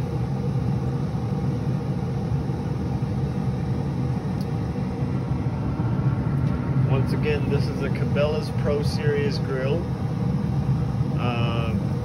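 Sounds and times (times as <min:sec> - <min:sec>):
pellet grill humming: 0:00.0 - 0:12.0.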